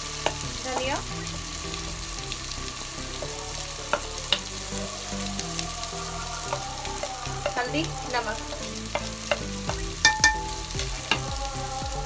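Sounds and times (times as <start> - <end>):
oil sizzling in pot: 0.0 - 12.0.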